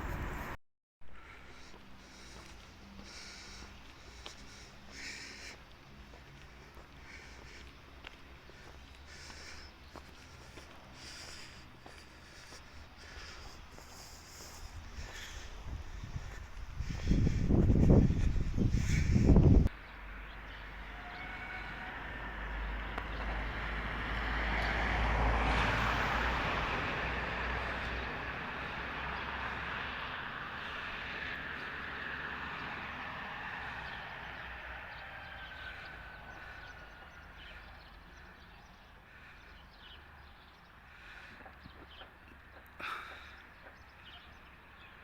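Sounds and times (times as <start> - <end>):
vehicle passing: 0.0 - 0.6, 1.2 - 44.9.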